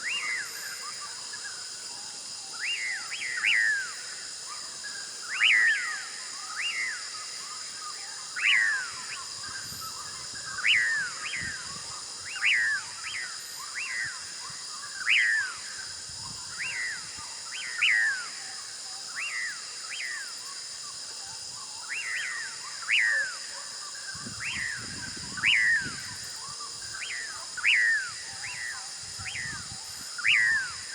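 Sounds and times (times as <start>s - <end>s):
steady high-pitched hiss: 0.0s - 30.9s.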